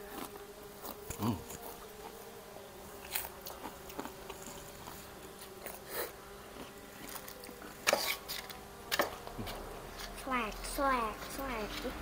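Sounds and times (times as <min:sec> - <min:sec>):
people chewing and mouth smacks: 0:00.0 - 0:10.2.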